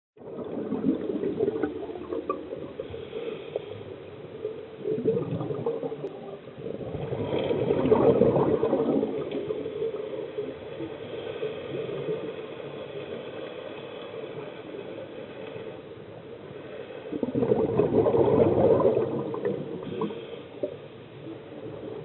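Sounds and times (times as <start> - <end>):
regulator bubbles gurgling underwater: 0.2 - 22.0.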